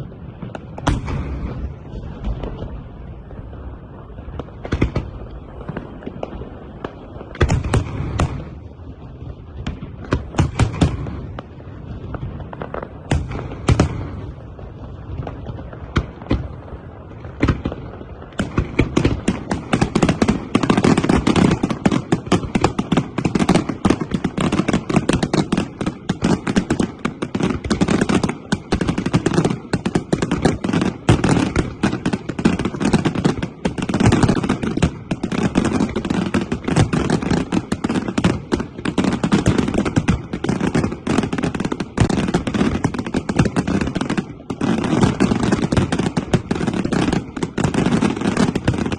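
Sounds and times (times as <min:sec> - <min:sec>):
fireworks bangs: 0:00.0 - 0:48.9
rapid-fire fireworks barrage: 0:00.0 - 0:48.9.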